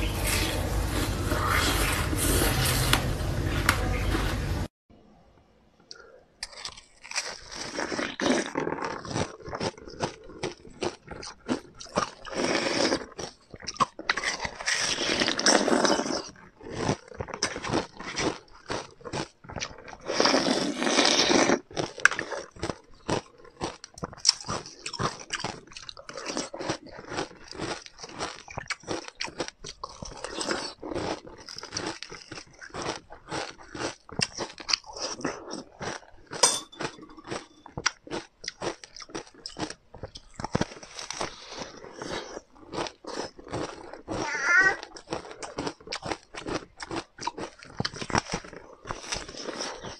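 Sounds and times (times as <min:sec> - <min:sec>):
person crunching ice: 0:06.4 - 0:49.9.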